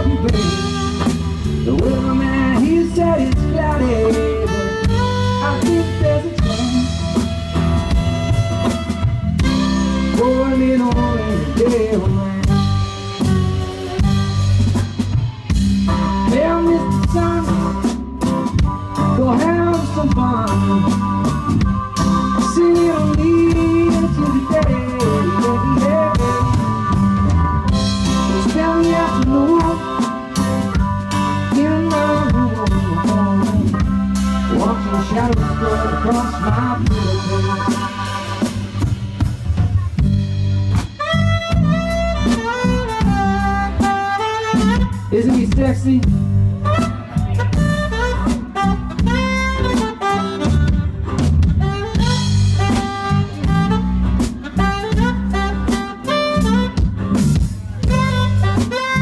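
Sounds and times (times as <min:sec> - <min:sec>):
bass: 0:00.0 - 0:59.0
drum kit hits and fills: 0:00.0 - 0:59.0
saxophone solo: 0:00.0 - 0:59.0.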